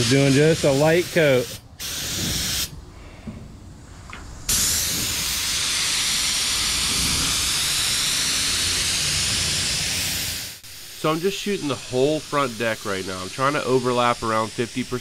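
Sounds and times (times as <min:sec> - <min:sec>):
paint spray gun hissing: 0:00.0 - 0:02.7, 0:04.5 - 0:15.0.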